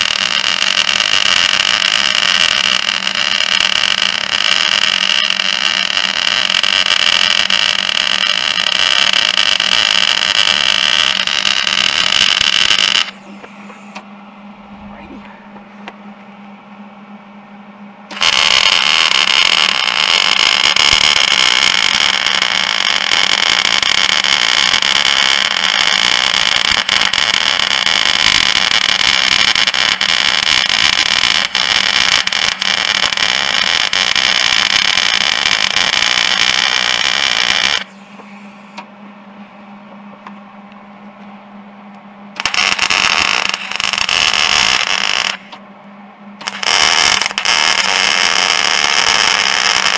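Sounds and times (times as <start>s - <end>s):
welder arc buzzing: 0.0s - 16.3s, 17.9s - 39.2s, 41.6s - 49.9s
steady low hum: 0.0s - 49.9s.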